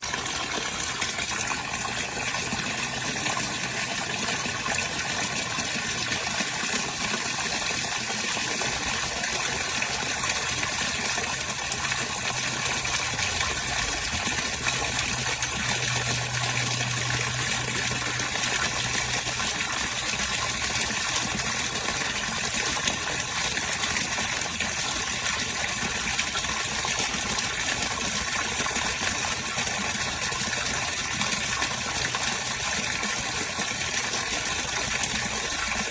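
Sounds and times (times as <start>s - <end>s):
water pouring into a tub: 0.0s - 35.9s.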